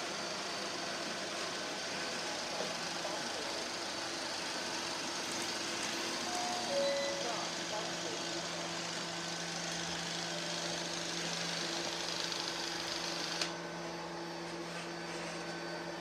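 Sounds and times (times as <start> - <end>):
robot vacuum cleaners whirring: 0.0 - 16.0.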